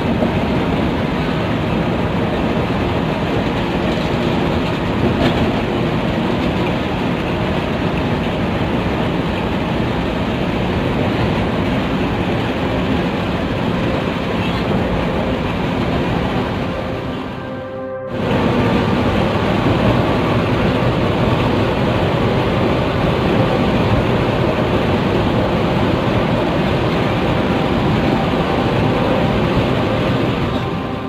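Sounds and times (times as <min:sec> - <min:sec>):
bus engine and road noise: 0:00.0 - 0:31.0.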